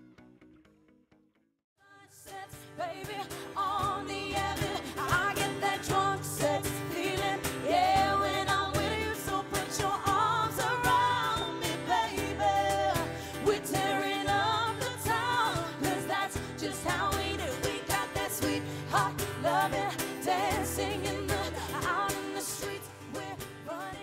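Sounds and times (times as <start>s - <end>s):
woman singing into a microphone: 1.8s - 24.0s
acoustic guitar: 2.0s - 24.0s.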